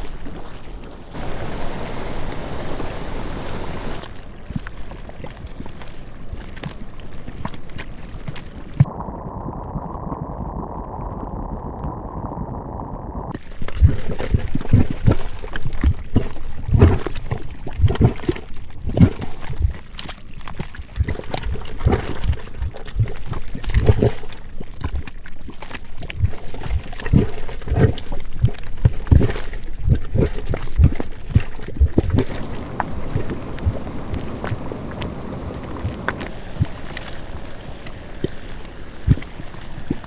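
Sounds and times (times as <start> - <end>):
pool boiling with bubbling plops: 0.0 - 40.0.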